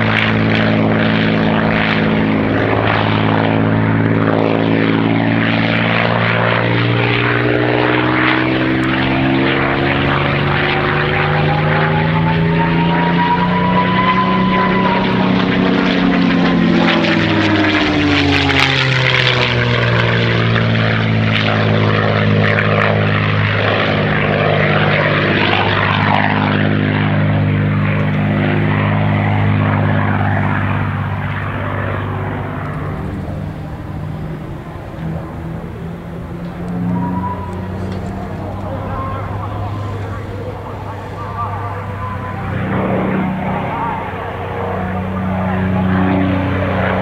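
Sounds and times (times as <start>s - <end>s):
propeller aircraft engine: 0.0s - 47.0s.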